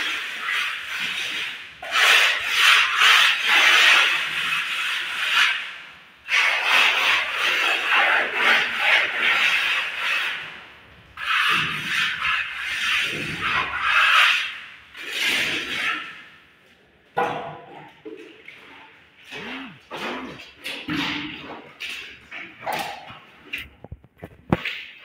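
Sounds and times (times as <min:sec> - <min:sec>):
plastering tool scraping render: 0:00.0 - 0:16.3, 0:18.2 - 0:25.0.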